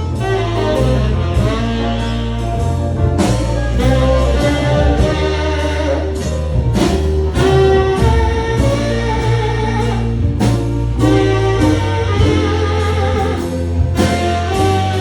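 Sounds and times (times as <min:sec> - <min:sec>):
bass notes: 0:00.0 - 0:15.0
drum strokes: 0:00.0 - 0:15.0
live band playing instrumental: 0:00.0 - 0:15.0.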